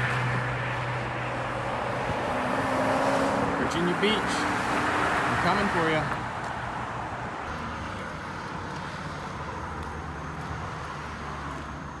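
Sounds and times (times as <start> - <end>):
road noise rumble and hiss: 0.0 - 12.0.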